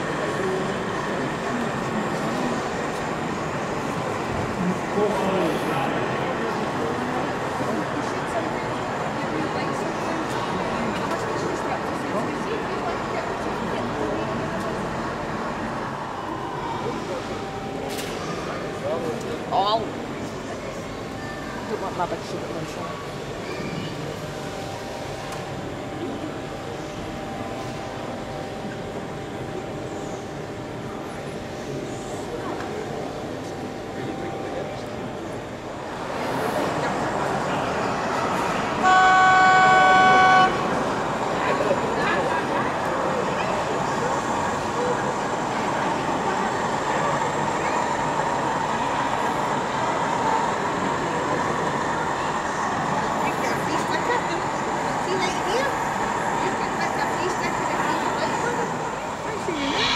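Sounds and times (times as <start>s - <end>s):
crowd chatter: 0.0s - 59.9s
hall background noise: 0.0s - 59.9s
model train rumble: 0.0s - 59.9s.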